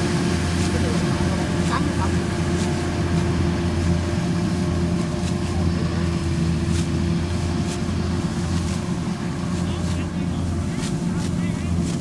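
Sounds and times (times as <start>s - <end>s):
combine harvester engine humming: 0.0s - 12.0s.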